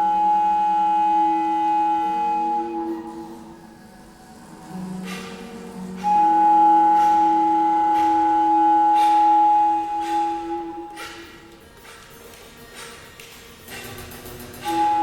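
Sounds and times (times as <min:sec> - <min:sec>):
held wind instrument tones: 0:00.0 - 0:11.7, 0:14.6 - 0:15.0.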